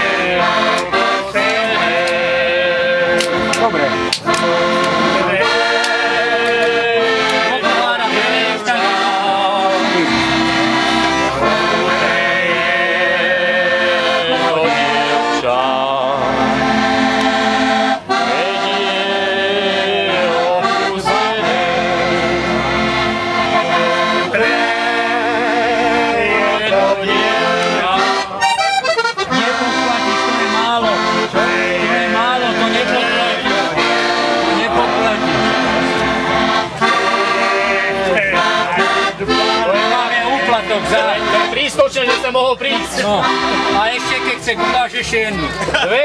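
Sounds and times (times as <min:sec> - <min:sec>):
accordion playing folk tune: 0:00.0 - 0:46.0.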